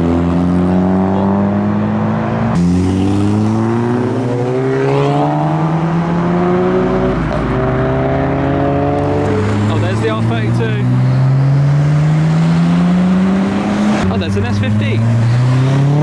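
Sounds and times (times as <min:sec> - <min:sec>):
car engines accelerating: 0:00.0 - 0:16.0.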